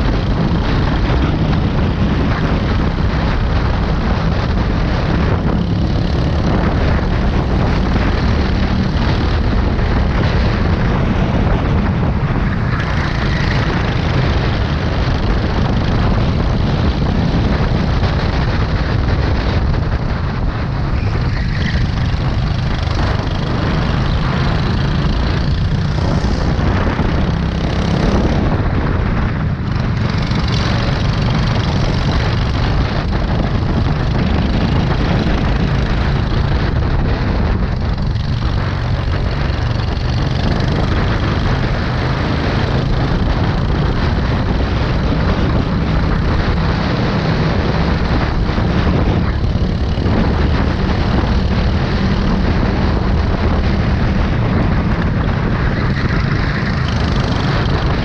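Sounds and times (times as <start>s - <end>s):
go-kart engine running hard: 0.0s - 58.0s
nearby kart engines: 0.0s - 58.0s.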